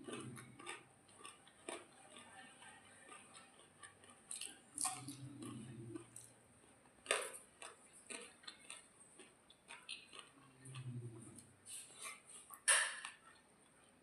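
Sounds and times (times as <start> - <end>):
chewing and lip smacks: 0.0 - 14.0.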